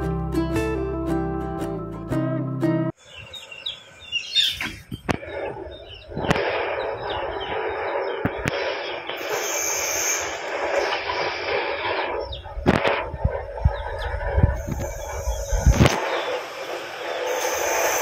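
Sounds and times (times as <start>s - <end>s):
birds chirping and twittering: 2.9s - 18.0s.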